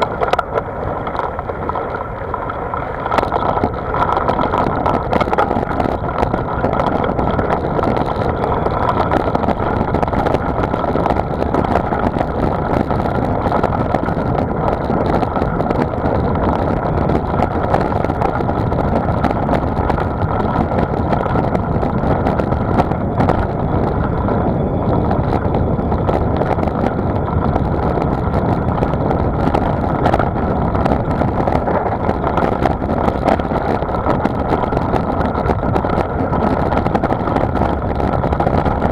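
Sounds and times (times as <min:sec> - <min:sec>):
rolling road noise: 0:00.0 - 0:38.9
wind rushing over microphone: 0:00.0 - 0:38.9.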